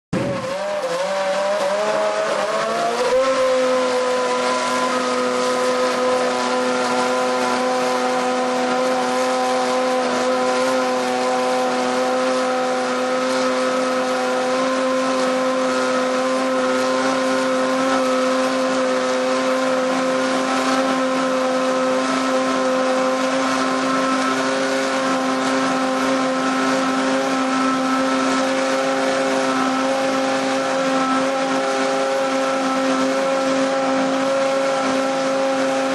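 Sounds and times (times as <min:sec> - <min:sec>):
racing car engine revving: 0:00.2 - 0:35.9.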